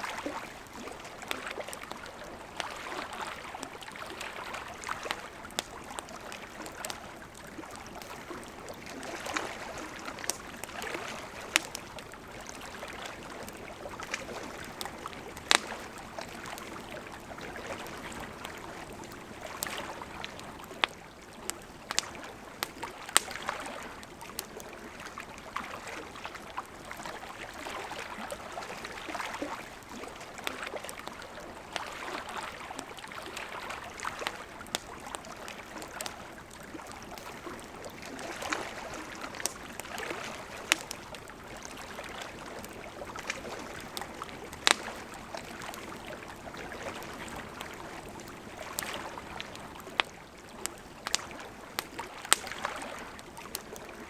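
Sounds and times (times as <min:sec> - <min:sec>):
campfire crackling and popping: 0:00.0 - 0:54.0
river flowing: 0:00.0 - 0:54.0.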